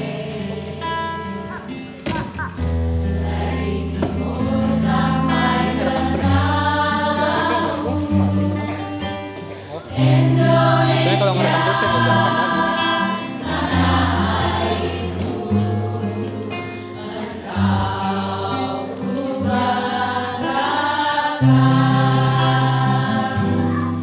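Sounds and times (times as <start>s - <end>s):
choir singing: 0.0s - 1.5s, 2.8s - 24.0s.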